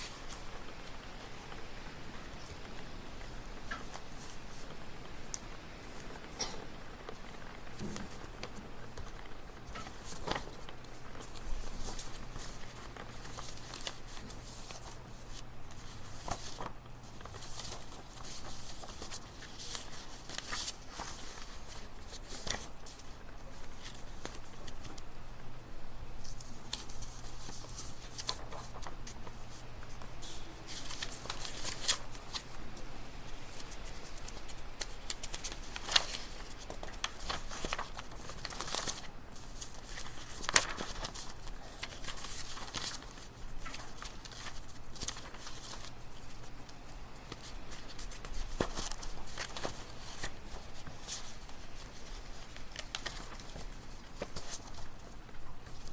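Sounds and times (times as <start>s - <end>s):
paper rustling and clicks: 0.0s - 25.4s, 26.2s - 55.9s
low room hum: 0.0s - 55.9s.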